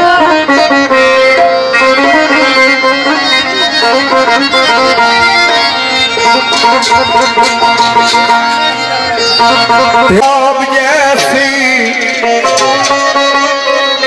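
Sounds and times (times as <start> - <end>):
sitars playing folk melody: 0.0 - 14.0.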